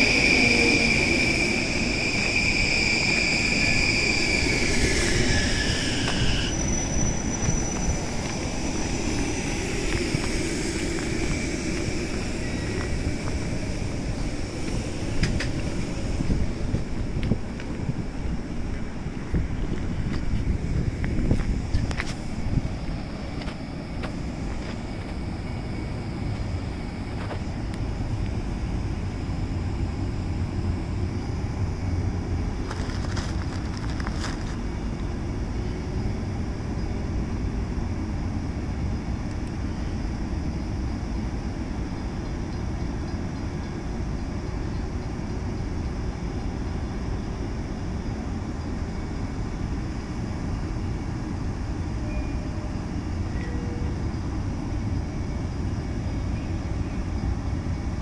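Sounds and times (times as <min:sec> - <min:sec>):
electric train humming: 0:00.0 - 0:58.0.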